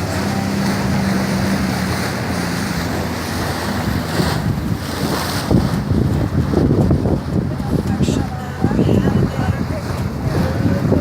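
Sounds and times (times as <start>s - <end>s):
water rushing: 0.0s - 11.0s
wind buffeting microphone: 0.0s - 11.0s.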